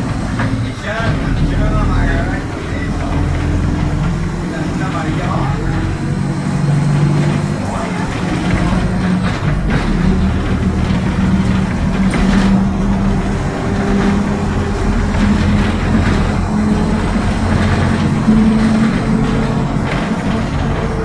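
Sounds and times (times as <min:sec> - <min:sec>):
bus engine drone: 0:00.0 - 0:21.0
differential whine: 0:00.0 - 0:21.0.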